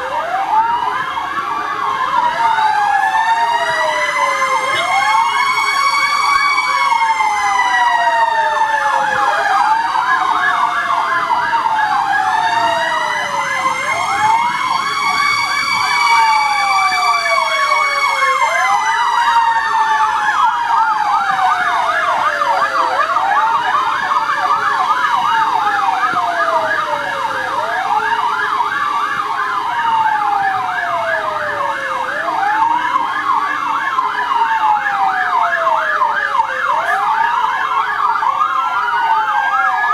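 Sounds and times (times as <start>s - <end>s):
fire truck siren wail: 0.0s - 39.9s
warbling siren yelp: 0.0s - 39.9s.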